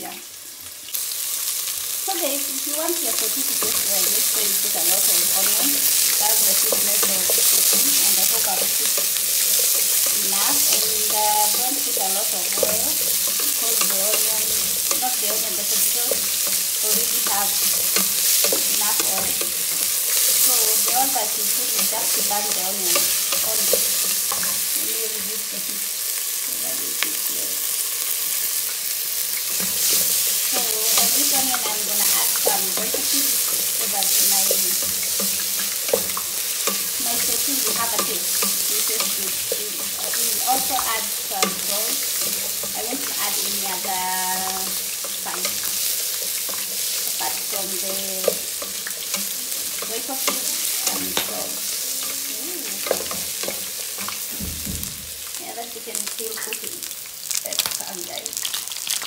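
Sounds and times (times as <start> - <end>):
onions sizzling in oil: 0.0 - 59.0
wooden spoon scraping a pan: 2.7 - 28.4, 29.3 - 54.4.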